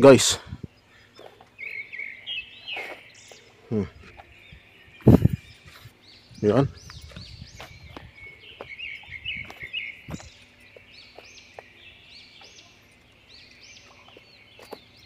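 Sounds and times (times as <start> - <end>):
birds chirping: 0.0 - 15.0
footsteps on loose stones: 1.1 - 15.0.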